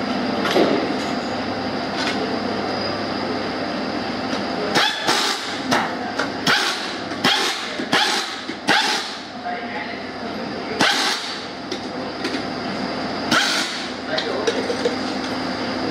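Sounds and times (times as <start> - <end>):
factory assembly line hum: 0.0 - 15.9.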